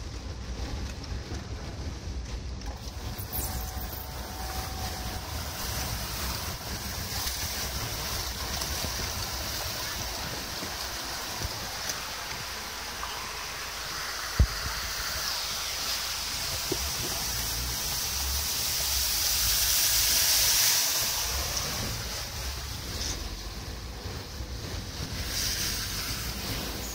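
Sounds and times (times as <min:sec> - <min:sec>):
low rumble: 0:00.0 - 0:26.9
water hissing around car tyres: 0:02.6 - 0:26.9.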